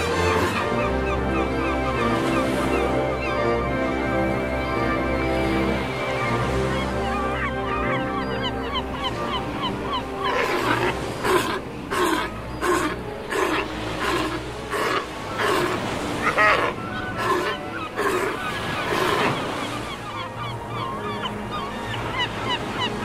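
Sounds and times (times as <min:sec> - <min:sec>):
sea lion barking: 0:00.0 - 0:03.6, 0:06.2 - 0:23.0
chorus of sea lion calls: 0:00.0 - 0:03.7, 0:04.3 - 0:23.0.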